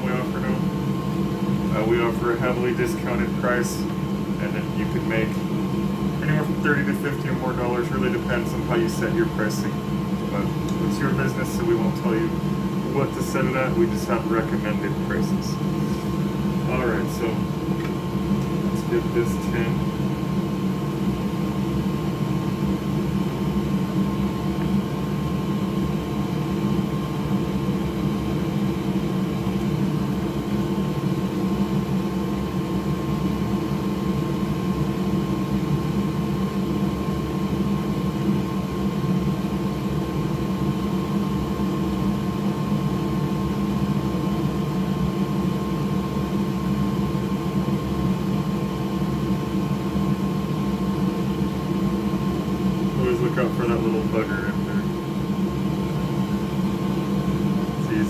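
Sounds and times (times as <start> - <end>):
electric fan motor whirring: 0.0 - 58.0.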